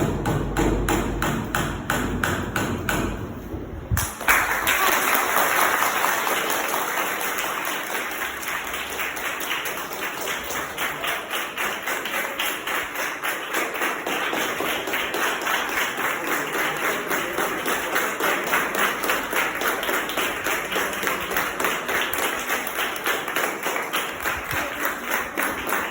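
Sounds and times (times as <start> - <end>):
crowd noise: 3.3 - 25.9
crowd clapping in rhythm: 4.0 - 25.9.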